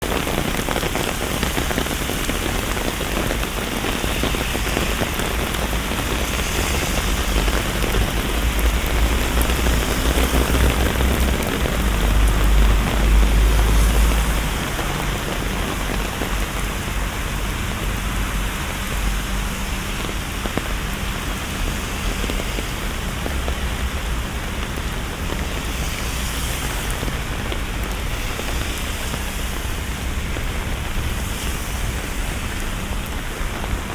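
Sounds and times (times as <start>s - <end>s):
steady rushing noise: 0.0s - 33.9s.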